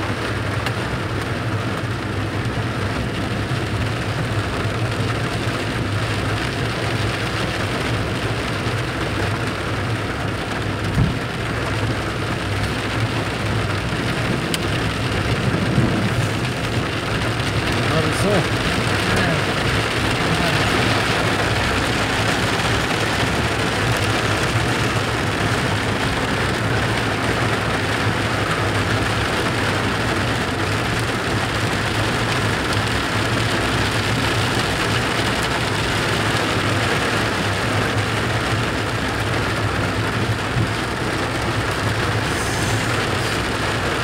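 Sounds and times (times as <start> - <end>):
hail and rain on car roof: 0.0 - 44.0
low car hum: 0.0 - 44.0.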